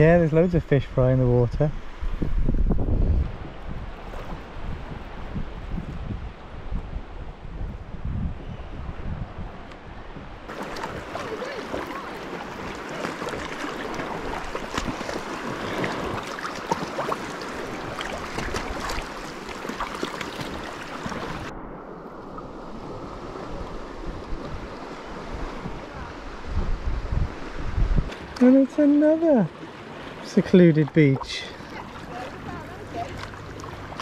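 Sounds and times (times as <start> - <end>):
water lapping around kayak: 1.6 - 7.7, 9.4 - 34.0.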